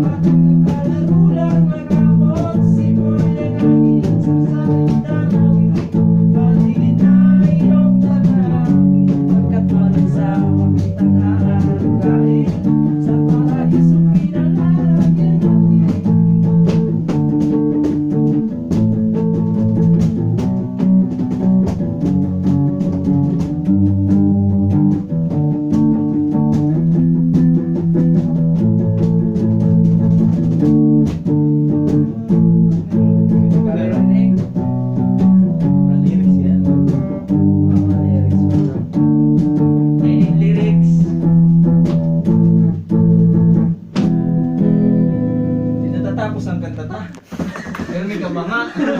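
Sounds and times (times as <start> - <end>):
electric guitar: 0.0 - 47.8
bass guitar: 0.0 - 48.9.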